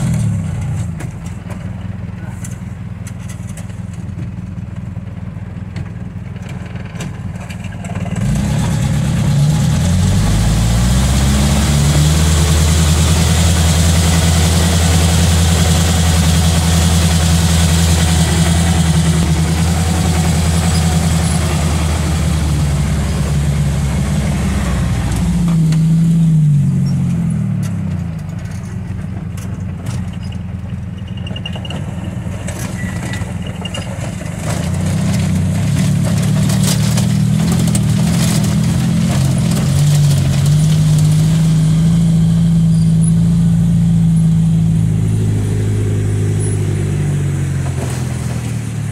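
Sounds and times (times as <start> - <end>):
bus engine revving: 0.0 - 1.2, 7.9 - 28.7, 31.6 - 48.9.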